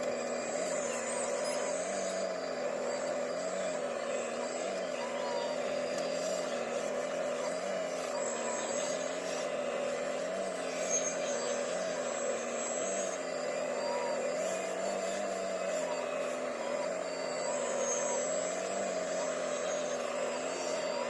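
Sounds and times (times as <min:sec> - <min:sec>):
heavy machinery diesel engine: 0:00.0 - 0:21.0.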